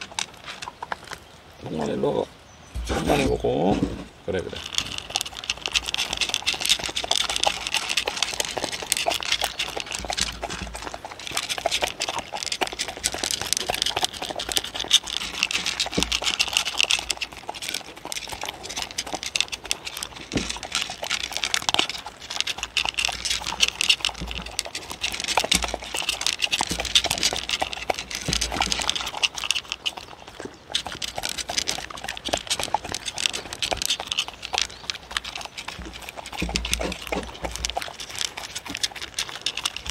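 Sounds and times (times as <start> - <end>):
kibble rattling against wood: 0.0 - 2.0, 2.8 - 39.9
dogs crunching kibble: 0.0 - 2.2, 4.3 - 39.9.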